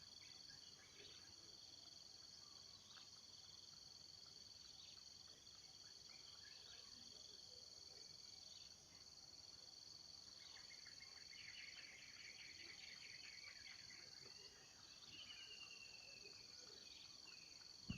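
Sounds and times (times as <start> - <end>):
crickets droning: 0.0 - 17.9.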